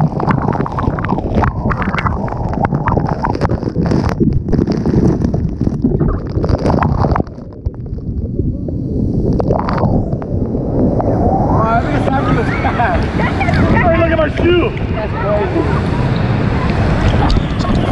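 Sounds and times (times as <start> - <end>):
waterfall rumble: 0.0 - 17.9
wind buffeting microphone: 0.0 - 17.9.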